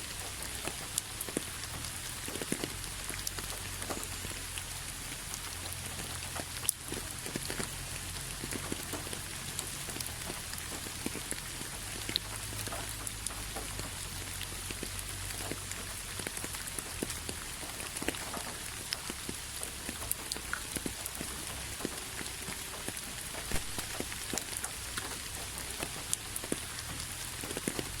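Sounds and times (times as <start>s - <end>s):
rain drops ticking on hard surface: 0.0s - 28.0s.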